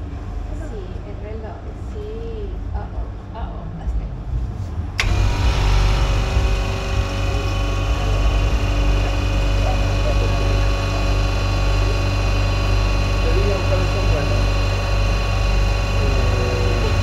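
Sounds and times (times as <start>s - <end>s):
refrigeration compressor humming: 0.0s - 17.0s
steady higher tones: 0.0s - 17.0s.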